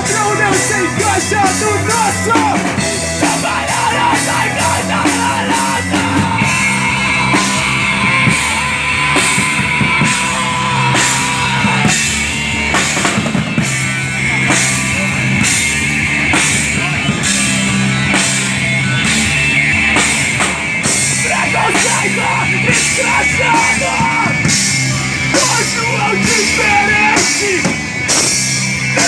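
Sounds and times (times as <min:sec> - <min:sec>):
rock band playing: 0:00.0 - 0:29.0.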